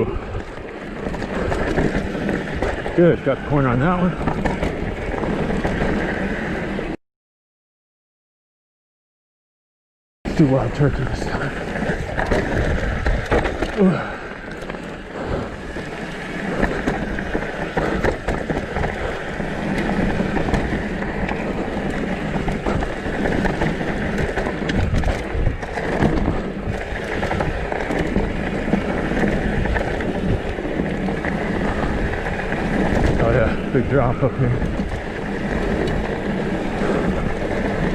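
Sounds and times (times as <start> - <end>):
bike clicks and rattles: 0.0 - 7.0, 10.3 - 37.9
bike tyre noise: 0.0 - 7.0, 10.3 - 37.9
wind rushing over microphone: 0.0 - 7.0, 10.3 - 37.9.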